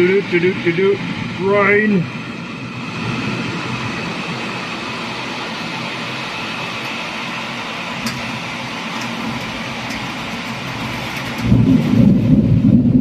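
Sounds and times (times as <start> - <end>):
low thunder rumble: 1.0 - 13.0
heavy rain pouring: 1.3 - 13.0.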